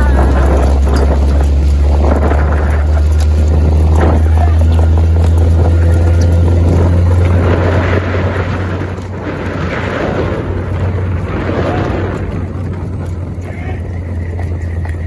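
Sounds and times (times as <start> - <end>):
low engine drone: 0.0 - 15.0
rushing noise: 0.0 - 15.0.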